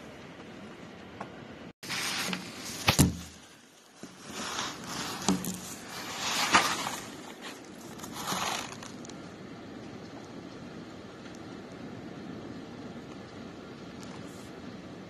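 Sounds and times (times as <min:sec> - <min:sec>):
heavy rain: 0:01.9 - 0:15.0.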